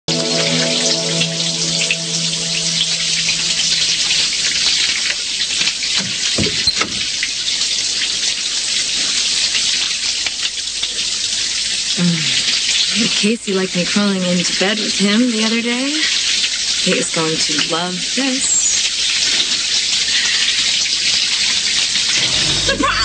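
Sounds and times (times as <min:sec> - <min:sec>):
shower water running: 0:00.1 - 0:23.0.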